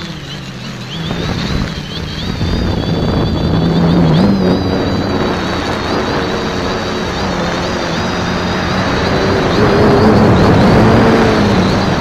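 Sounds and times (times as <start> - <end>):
drone motors whining: 0.0 - 12.0
wind on microphone: 0.9 - 12.0.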